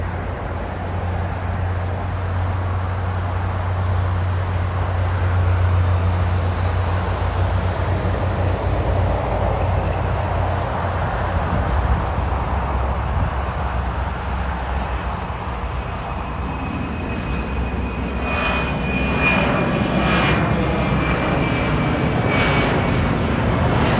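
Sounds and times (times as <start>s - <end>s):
jet engines roaring: 0.0s - 23.9s.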